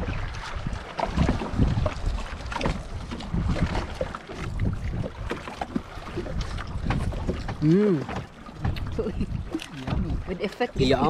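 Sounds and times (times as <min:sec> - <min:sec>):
water lapping against boat hull: 0:00.0 - 0:11.0
wind buffeting microphone: 0:00.0 - 0:11.0.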